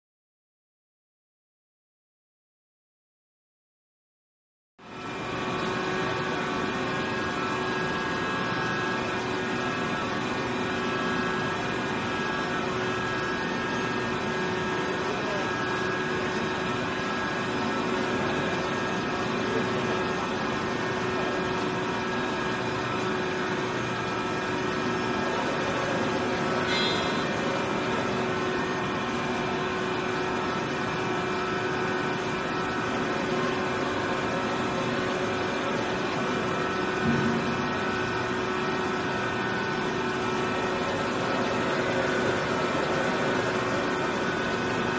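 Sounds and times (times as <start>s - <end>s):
machine motor hum: 4.9s - 44.9s.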